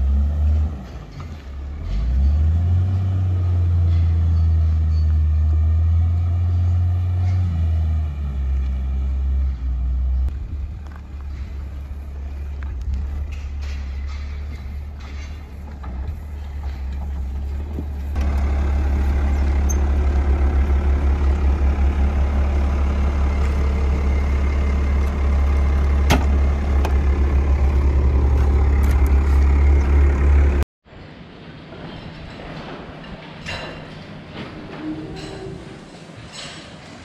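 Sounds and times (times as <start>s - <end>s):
diesel engine rumbling: 0.0s - 30.7s.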